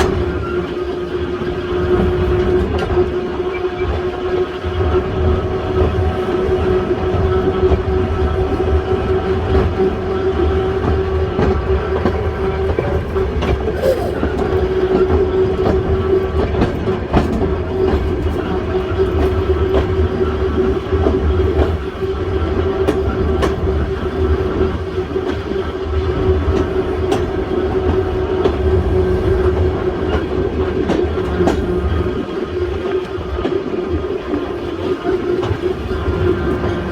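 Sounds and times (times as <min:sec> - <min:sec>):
electric railway car whine: 0:00.0 - 0:36.9
low rumble of train: 0:00.0 - 0:36.9.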